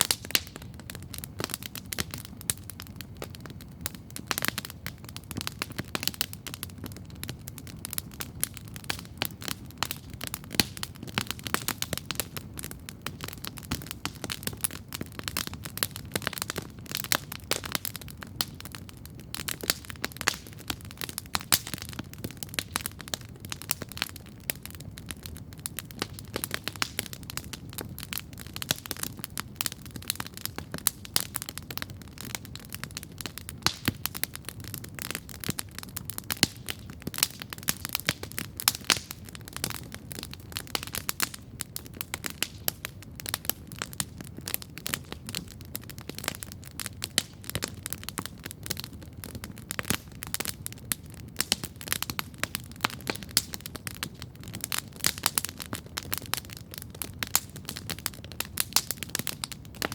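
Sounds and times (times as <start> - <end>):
campfire crackling and popping: 0.0 - 59.9
low rush of burning fire: 0.0 - 59.9.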